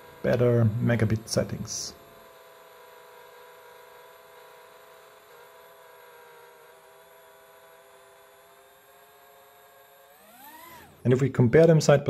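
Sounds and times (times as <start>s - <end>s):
faint steady hum of held tones: 0.0s - 12.0s.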